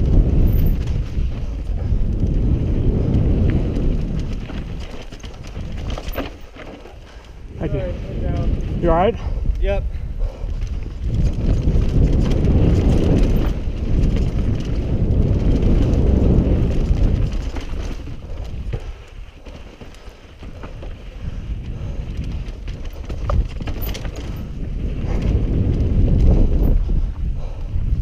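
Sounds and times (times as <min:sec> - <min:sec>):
bike rattles and clicks: 0:00.0 - 0:28.0
wind buffeting microphone: 0:00.0 - 0:28.0.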